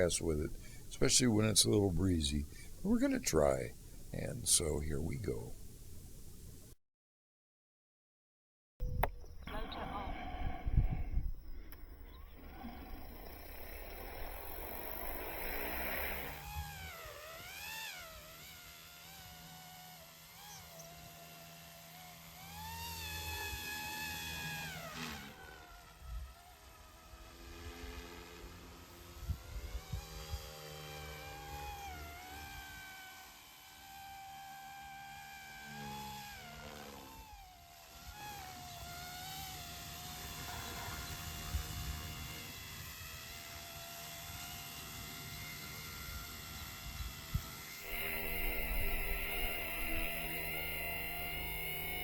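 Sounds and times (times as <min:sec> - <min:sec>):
rc helicopter motor whine: 0:00.0 - 0:06.7, 0:08.9 - 0:52.0.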